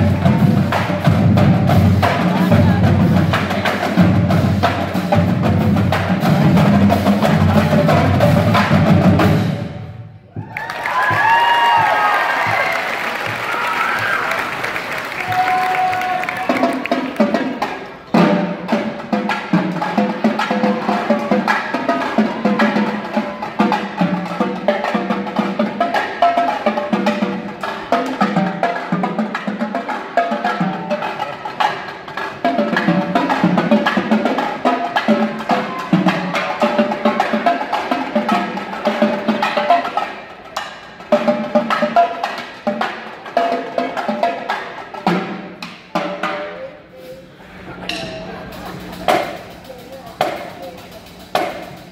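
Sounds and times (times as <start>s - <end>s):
marching drumline playing: 0.0s - 47.2s, 47.8s - 51.9s.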